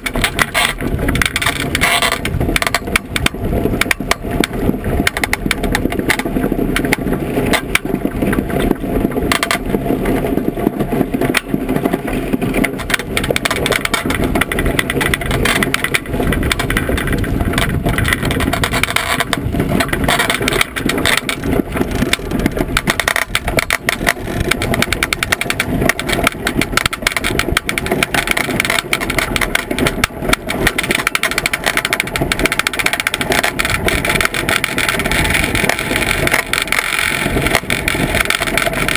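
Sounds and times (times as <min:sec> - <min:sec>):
rattling clicks: 0:00.0 - 0:09.7, 0:11.2 - 0:38.9
iceboat runners rumbling over ice: 0:00.0 - 0:38.9
wind buffeting microphone: 0:00.0 - 0:38.9.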